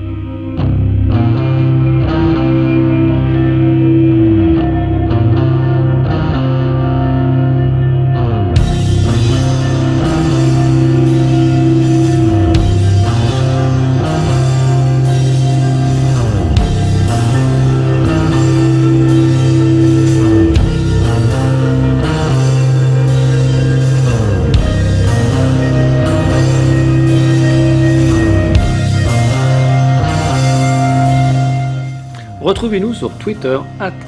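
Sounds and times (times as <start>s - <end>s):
rock music with guitar and drums: 0.0s - 34.0s.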